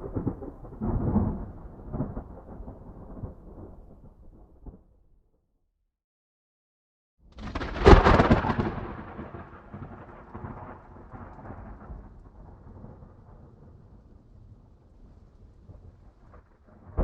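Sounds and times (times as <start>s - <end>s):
thunder crack and rumble: 0.0s - 5.1s, 7.3s - 17.0s.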